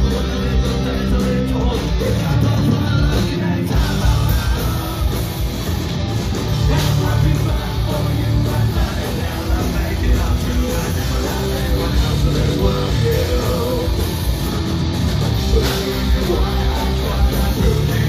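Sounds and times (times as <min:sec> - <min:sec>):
person singing: 0:00.0 - 0:05.5, 0:06.6 - 0:14.6, 0:15.4 - 0:18.0
bass guitar: 0:00.0 - 0:18.0
distorted electric guitars: 0:00.0 - 0:18.0
pounding drums: 0:00.0 - 0:18.0.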